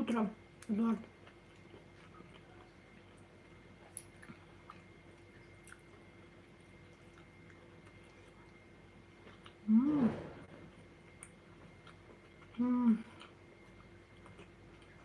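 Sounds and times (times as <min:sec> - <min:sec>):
low steady hum: 0:00.0 - 0:15.0
faint chewing: 0:00.6 - 0:09.7, 0:10.6 - 0:15.0.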